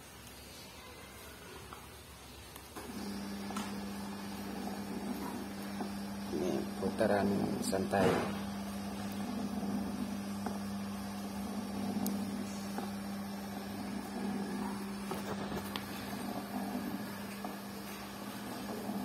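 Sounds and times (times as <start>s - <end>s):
gear motor humming: 2.8s - 19.0s.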